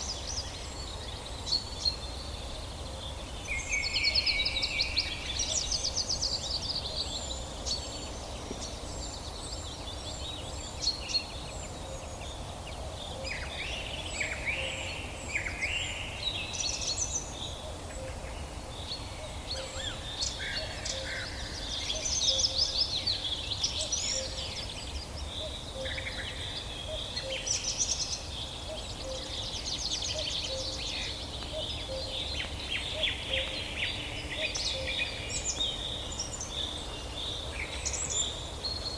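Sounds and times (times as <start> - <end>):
wild birds singing and calling: 0.0 - 38.9.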